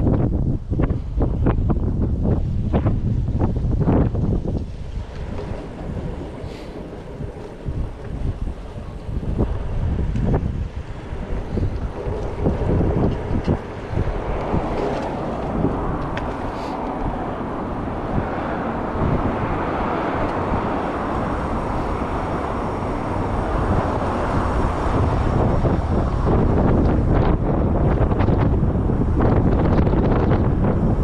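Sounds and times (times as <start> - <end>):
bicycle tyres rumbling on trail: 0.0 - 31.0
wind rushing over microphone: 0.0 - 31.0.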